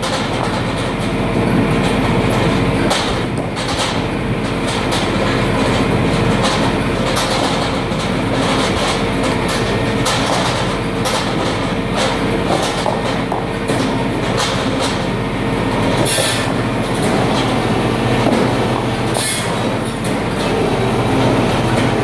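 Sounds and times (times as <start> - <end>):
logs clattering against bars: 0.0 - 22.0
rotating drum rumbling: 0.0 - 22.0
steady machine hum: 0.0 - 22.0.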